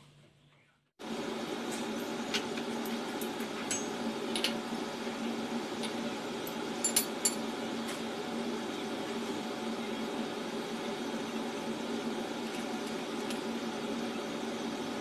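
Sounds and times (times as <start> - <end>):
steady hum: 1.0 - 15.0.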